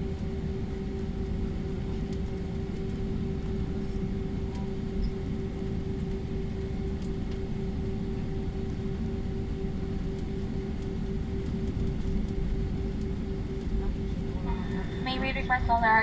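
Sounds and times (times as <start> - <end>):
aircraft cabin rumble: 0.0 - 16.0
constant hum: 0.0 - 16.0.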